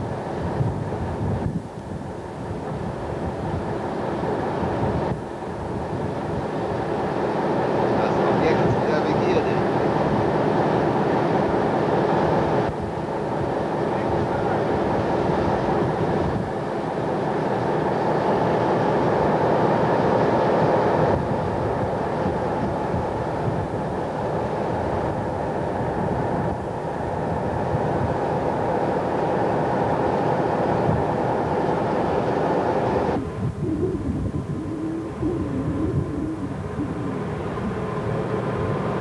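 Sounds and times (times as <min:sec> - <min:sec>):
boat engines droning: 0:00.0 - 0:39.0.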